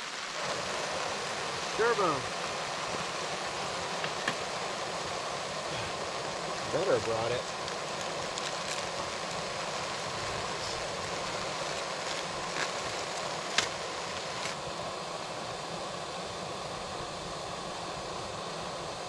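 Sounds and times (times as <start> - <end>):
gas stove burner hissing: 0.0 - 19.0.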